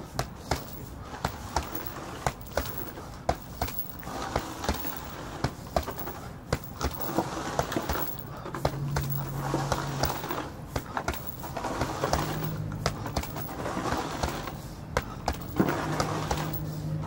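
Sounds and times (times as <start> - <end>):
gloves punching heavy bag: 0.0 - 17.0.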